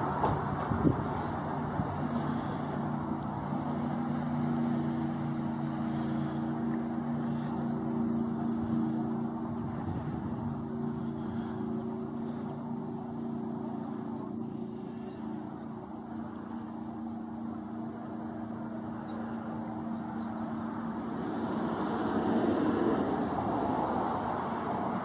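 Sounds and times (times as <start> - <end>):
boat engine droning: 0.0 - 25.0
broad rushing noise: 0.0 - 25.0.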